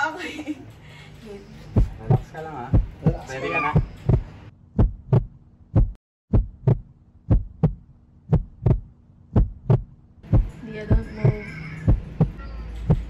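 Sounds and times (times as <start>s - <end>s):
heartbeat thumps: 1.7s - 13.0s.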